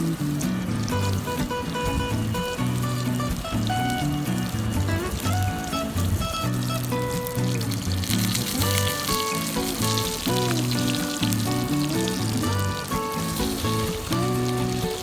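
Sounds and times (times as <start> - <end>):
background music with held notes: 0.0 - 15.0
food sizzling in frying: 0.0 - 15.0.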